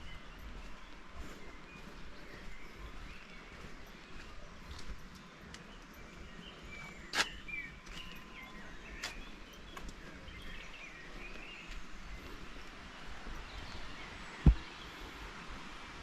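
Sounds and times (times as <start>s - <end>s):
outdoor background noise: 0.0s - 16.0s
small birds chirping: 0.0s - 16.0s.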